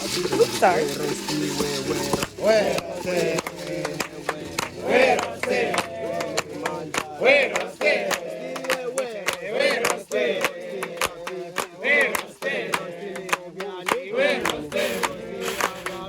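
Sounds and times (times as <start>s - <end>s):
group singing call-and-response chant: 0.0s - 16.0s
sharp rhythmic knocks: 0.0s - 16.0s.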